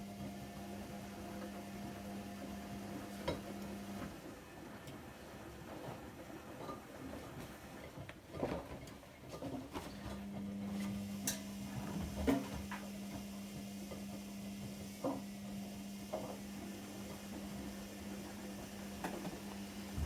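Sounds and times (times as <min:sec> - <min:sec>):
washing machine low hum: 0:00.0 - 0:20.0.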